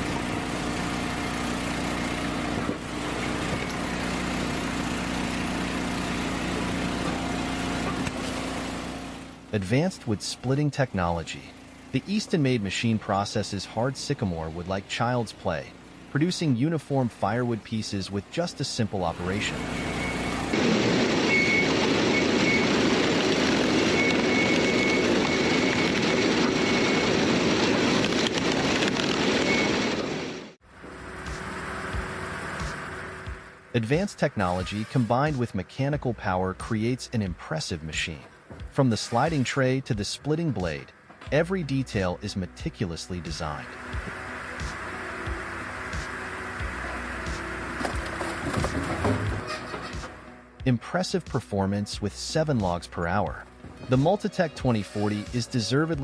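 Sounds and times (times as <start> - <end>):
log splitter engine running: 0.0 - 50.5.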